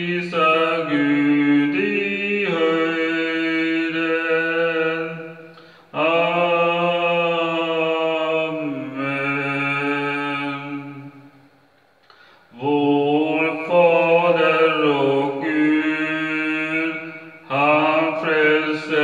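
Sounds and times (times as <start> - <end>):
man singing long notes: 0.0 - 11.2, 12.5 - 19.0.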